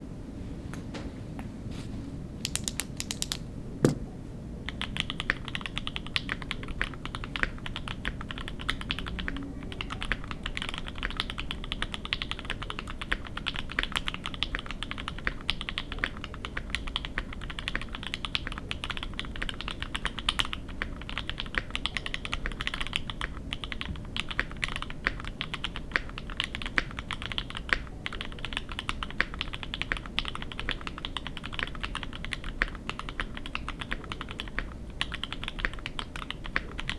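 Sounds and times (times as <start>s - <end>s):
fast mechanical keyboard typing: 2.4s - 3.5s, 4.7s - 36.9s.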